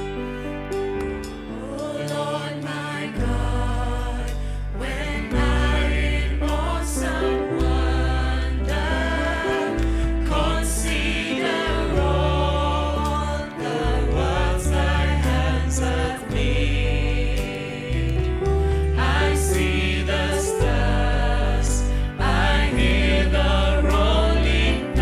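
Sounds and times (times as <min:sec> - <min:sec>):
choir singing over a band: 0:01.4 - 0:25.0
held bass notes: 0:03.2 - 0:25.0.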